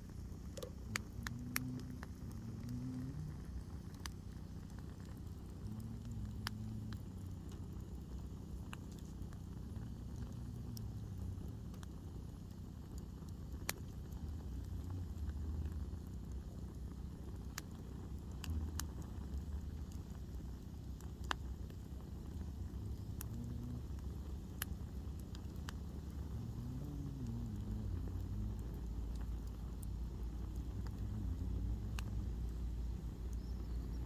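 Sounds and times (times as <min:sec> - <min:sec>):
fire low rumble: 0:00.0 - 0:34.0
firewood crackling and popping: 0:00.0 - 0:34.0.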